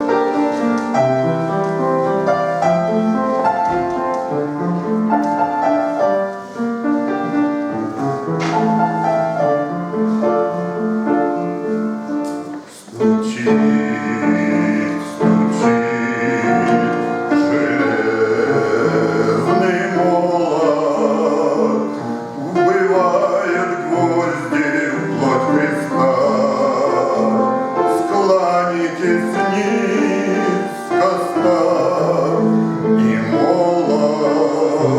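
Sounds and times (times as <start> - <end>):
keyboard playing: 0.0 - 34.9
man singing a hymn: 0.0 - 34.9.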